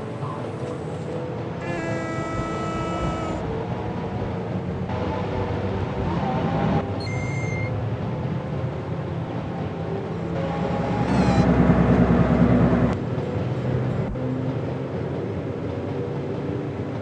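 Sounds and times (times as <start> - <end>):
train rumbling and humming: 0.0 - 17.0.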